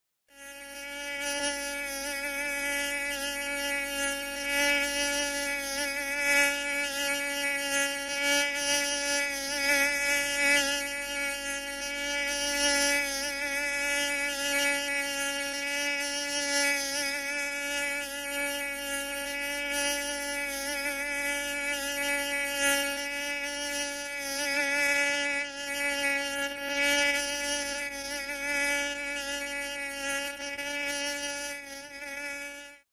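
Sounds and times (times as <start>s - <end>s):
mosquito whine: 0.3s - 32.9s.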